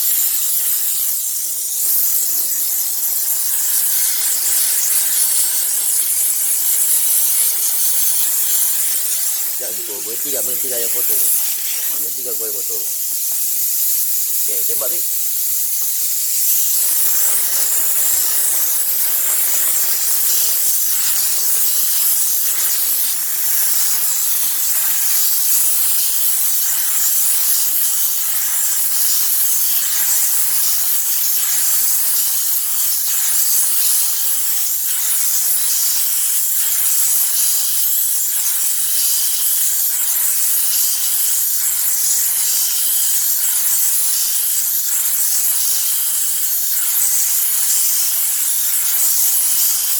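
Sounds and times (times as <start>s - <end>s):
steam cleaner hissing: 0.0s - 49.9s.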